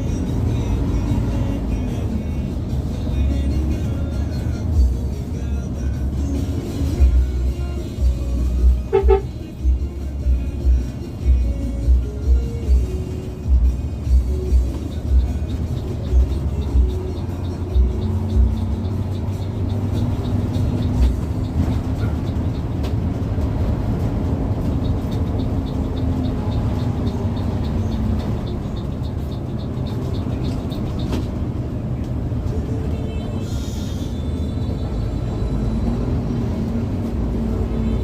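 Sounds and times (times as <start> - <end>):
bus engine hum: 0.0 - 38.0
music playing: 0.0 - 38.0
road rumble: 0.0 - 38.0.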